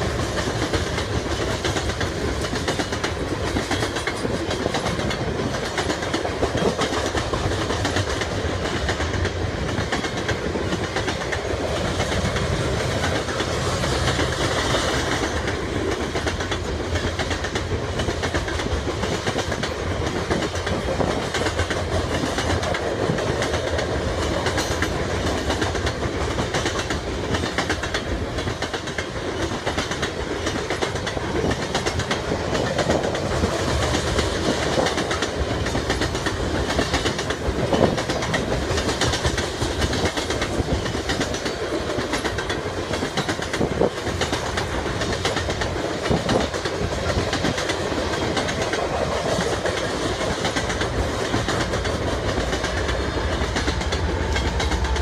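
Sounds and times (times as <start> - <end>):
train rumble: 0.0 - 55.0
train wheels clicking on rails: 0.0 - 55.0.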